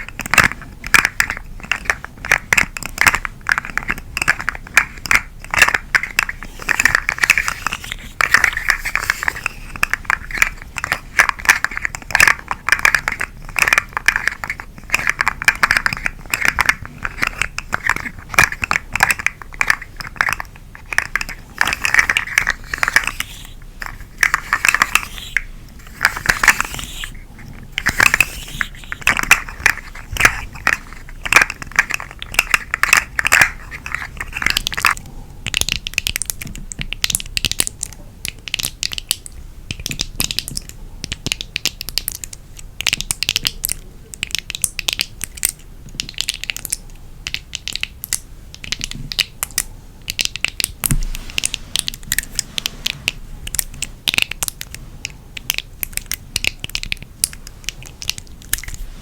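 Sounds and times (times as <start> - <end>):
toy crackling and crinkling: 0.0 - 59.0.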